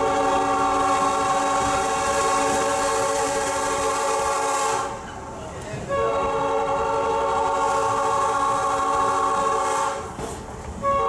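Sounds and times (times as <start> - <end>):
train horn blast: 0.0 - 5.0, 5.9 - 10.2, 10.8 - 11.0
moving train noise: 0.0 - 11.0.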